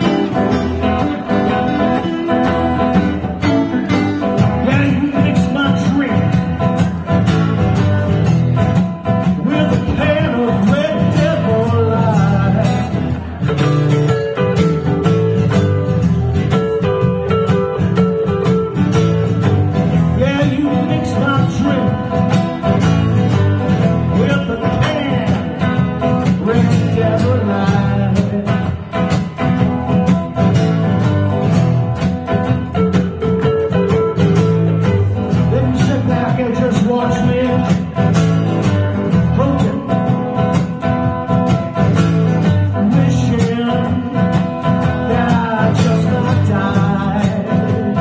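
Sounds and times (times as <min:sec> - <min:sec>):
acoustic guitar playing: 0:00.0 - 0:48.0
electric guitar playing blues: 0:00.0 - 0:48.0.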